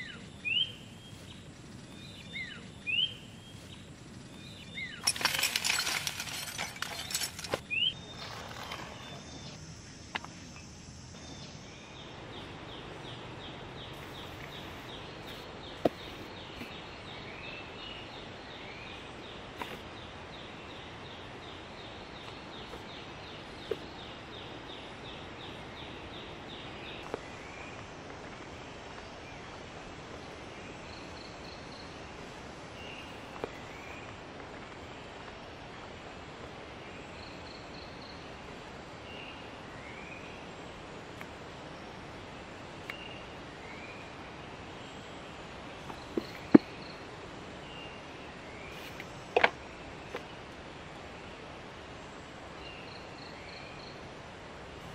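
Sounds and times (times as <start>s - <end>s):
outdoor background hiss: 0.0s - 54.9s.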